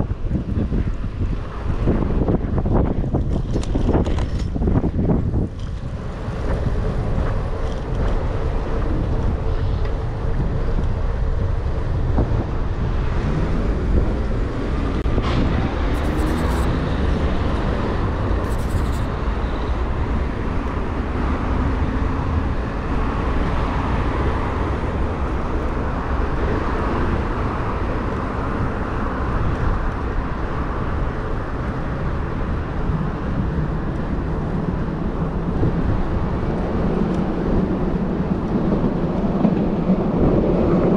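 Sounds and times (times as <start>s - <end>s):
road traffic: 0.0s - 40.9s
wind rushing on microphone: 0.0s - 40.9s.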